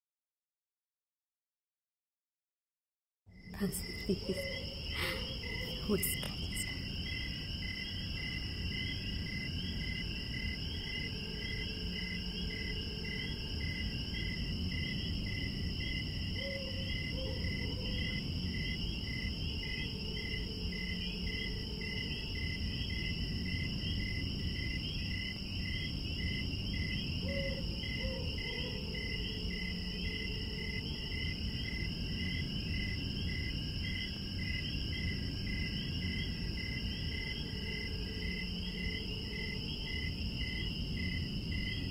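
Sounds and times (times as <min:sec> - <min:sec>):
cricket chirping: 0:03.3 - 0:41.9
insects trilling: 0:03.4 - 0:41.9.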